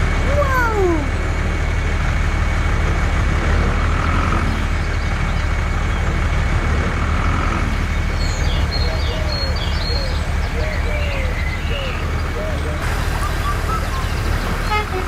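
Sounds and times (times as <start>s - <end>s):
tractor motor rumbling with whine: 0.0s - 15.0s.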